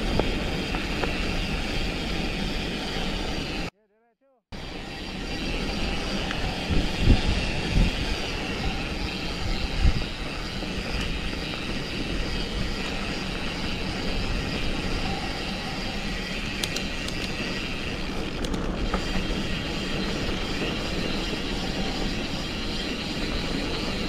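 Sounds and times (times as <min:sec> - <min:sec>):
tyre and wind rush: 0:00.0 - 0:03.7, 0:04.6 - 0:24.0.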